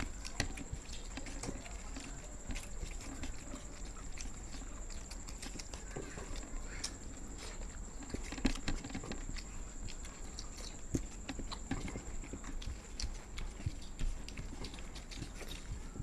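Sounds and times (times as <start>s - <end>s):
faint high-pitched whine: 0.0s - 16.0s
people chewing: 0.0s - 16.0s.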